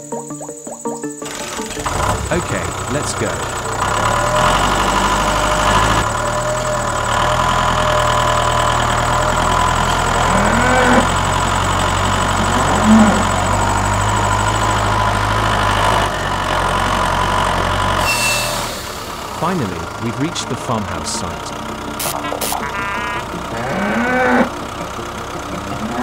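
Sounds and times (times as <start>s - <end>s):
tractor engine running: 1.2s - 26.0s.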